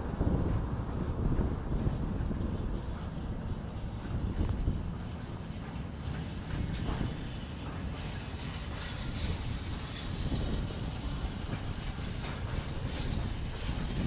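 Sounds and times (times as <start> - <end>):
steel wheels rumbling on rails: 0.0 - 14.0
wagons rattling and clanking: 0.2 - 14.0.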